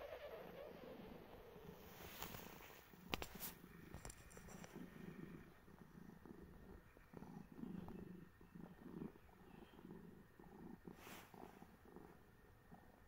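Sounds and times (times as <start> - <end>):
cat purring: 0.0 - 13.0
soft rustle: 1.6 - 8.2, 8.8 - 13.0.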